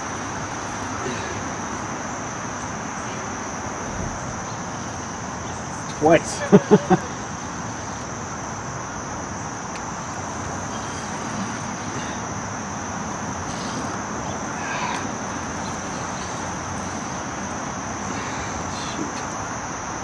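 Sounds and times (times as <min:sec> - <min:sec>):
insects droning: 0:00.0 - 0:20.0
low background hiss: 0:00.0 - 0:20.0.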